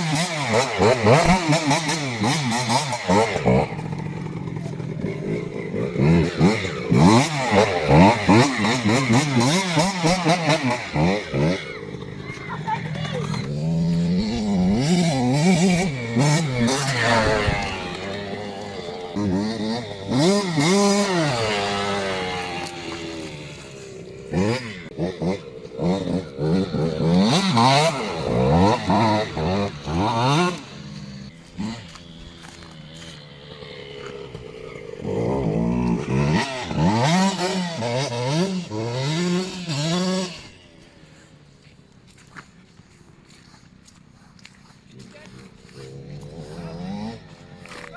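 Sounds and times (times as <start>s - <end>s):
two-stroke engine revving: 0.0s - 47.9s.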